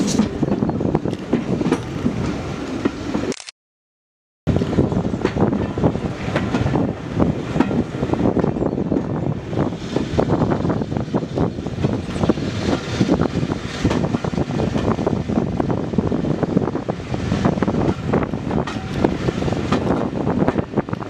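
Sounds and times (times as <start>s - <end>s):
train wheels running on rails: 0.0s - 3.3s, 4.5s - 21.0s.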